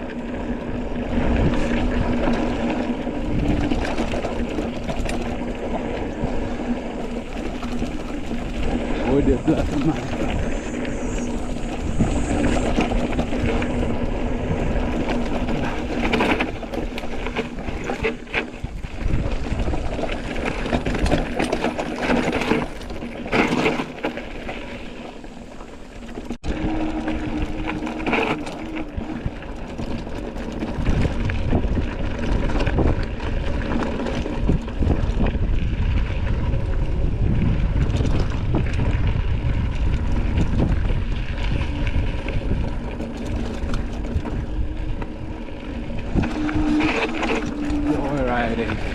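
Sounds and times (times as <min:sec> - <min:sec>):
bike rattling over bumps: 0:00.0 - 0:48.9
bike tyres on dirt: 0:00.0 - 0:48.9
wind buffeting microphone: 0:00.0 - 0:48.9.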